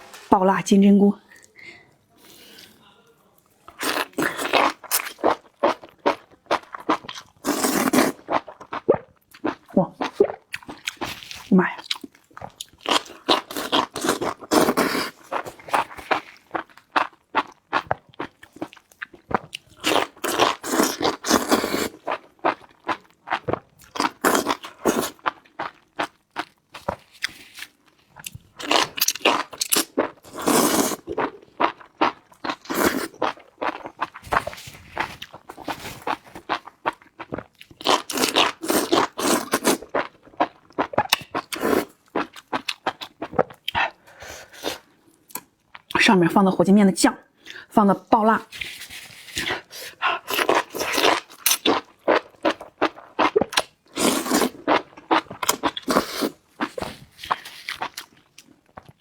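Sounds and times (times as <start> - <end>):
person chewing crunchy food: 3.7 - 46.0, 48.5 - 59.0.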